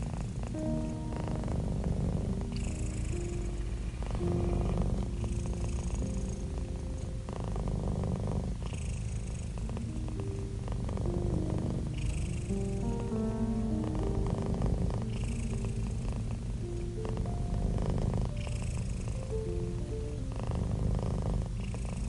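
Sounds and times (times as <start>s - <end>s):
cat purring: 0.0s - 22.0s
soft held notes: 0.0s - 22.0s.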